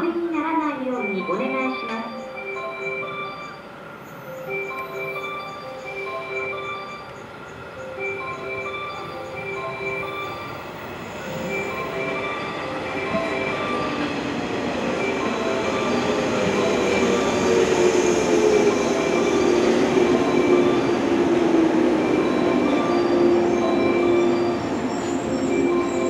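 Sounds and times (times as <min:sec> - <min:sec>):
train wheels rumbling: 0:02.7 - 0:26.0.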